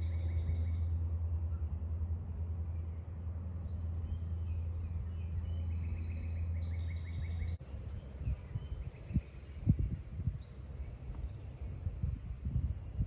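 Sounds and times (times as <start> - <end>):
low engine drone: 0.0 - 12.8
birdsong: 0.0 - 13.0.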